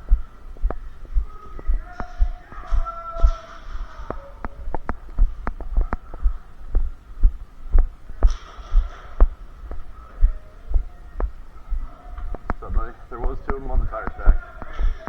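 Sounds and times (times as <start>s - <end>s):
walking footsteps: 0.0s - 15.0s.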